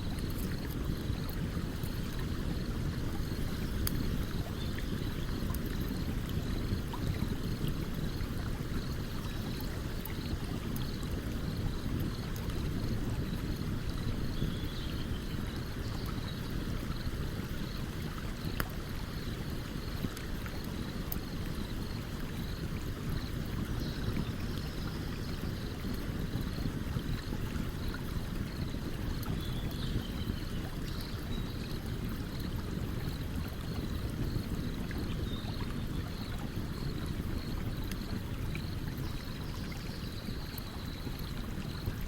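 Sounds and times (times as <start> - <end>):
campfire crackles: 0.0 - 39.1
stream water flowing: 0.0 - 42.0.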